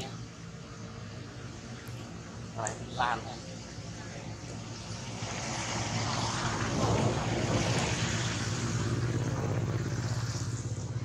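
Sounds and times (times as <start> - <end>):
motor engine running: 1.8 - 11.0.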